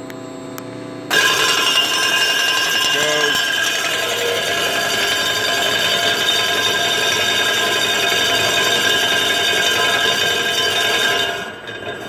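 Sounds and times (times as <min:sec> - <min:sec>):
filling machine motor whining: 0:01.1 - 0:12.0.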